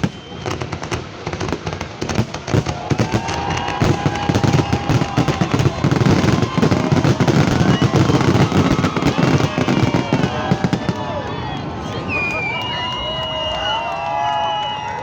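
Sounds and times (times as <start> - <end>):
fireworks bangs and crackles: 0.0 - 14.8.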